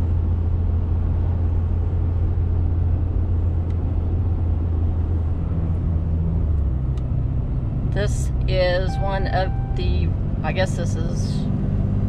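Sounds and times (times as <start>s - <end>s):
engine and road noise drone: 0.0s - 12.0s.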